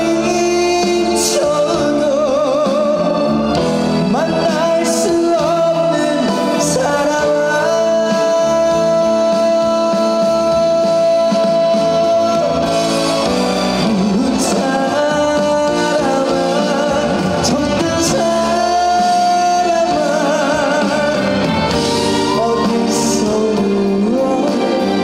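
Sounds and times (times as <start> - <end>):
man singing: 0.0 - 25.0
musical accompaniment: 0.0 - 25.0.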